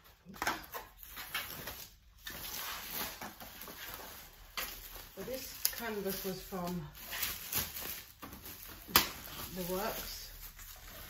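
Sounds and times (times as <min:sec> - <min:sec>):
paper sheets rustling: 0:01.0 - 0:11.0.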